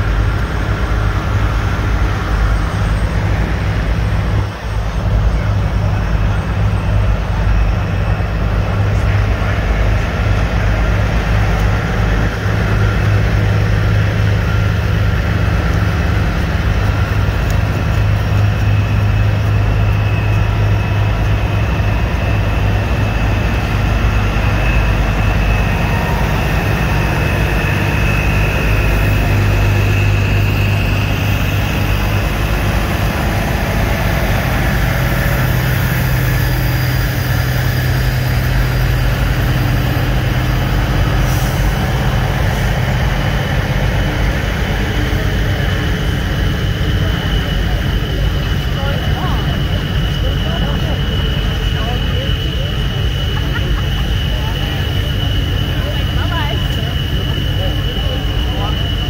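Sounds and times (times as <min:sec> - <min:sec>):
heavy vehicle engine idling: 0:00.0 - 0:59.0
faint high whine: 0:02.1 - 0:59.0.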